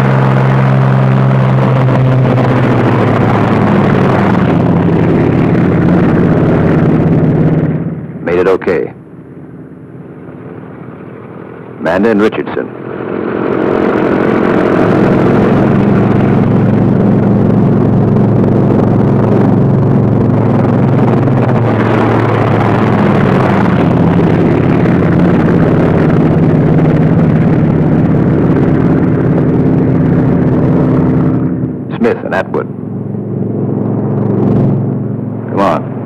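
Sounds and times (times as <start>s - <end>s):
radial aircraft engines droning: 0.0s - 36.0s.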